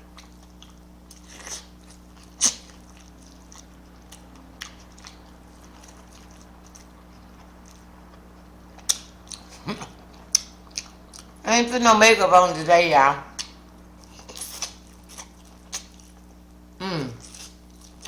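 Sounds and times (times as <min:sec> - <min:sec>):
person chewing food: 0:00.0 - 0:11.4, 0:13.3 - 0:18.0
low electrical hum: 0:00.0 - 0:18.0.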